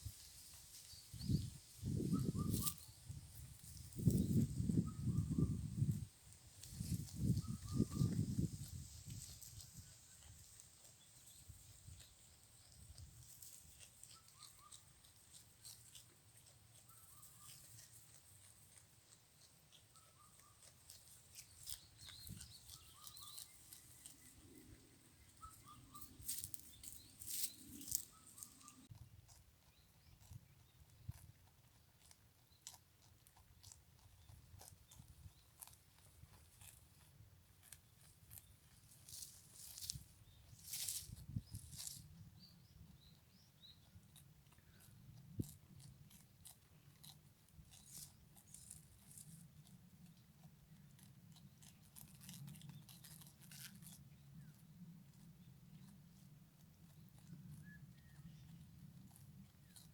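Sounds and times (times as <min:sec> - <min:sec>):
goat chewing grass: 0:00.0 - 0:59.9.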